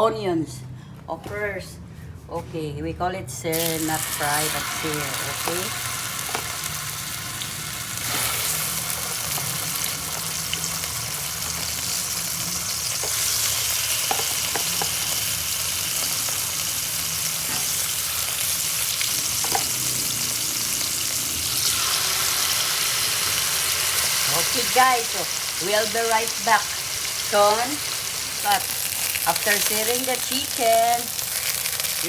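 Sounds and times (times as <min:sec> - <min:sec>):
chicken sizzling in oil: 0:03.6 - 0:32.0.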